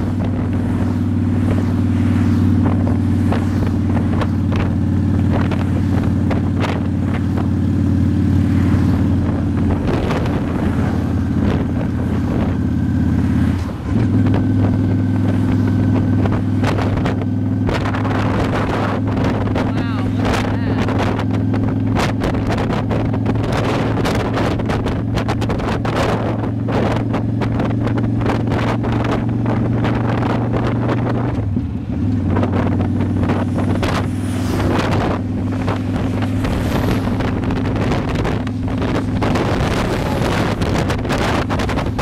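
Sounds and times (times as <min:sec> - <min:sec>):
motorcycle engine cruising: 0:00.0 - 0:42.0
wind buffeting microphone: 0:00.0 - 0:42.0.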